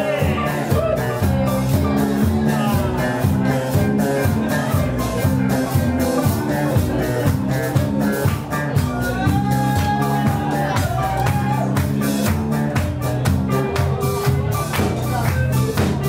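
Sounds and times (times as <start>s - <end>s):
funk band playing: 0.0s - 16.0s.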